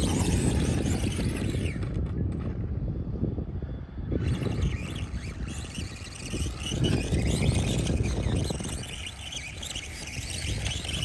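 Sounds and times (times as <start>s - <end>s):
electric motor whine: 0.0s - 11.0s
wind buffeting microphone: 0.0s - 11.0s.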